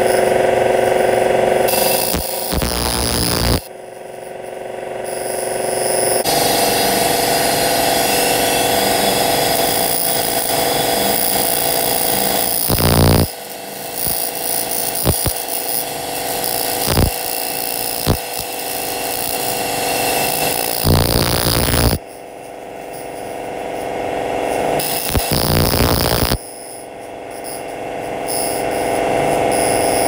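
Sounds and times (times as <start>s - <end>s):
laser cleaner buzzing hiss: 1.7s - 3.7s, 5.1s - 22.0s, 24.5s - 30.0s.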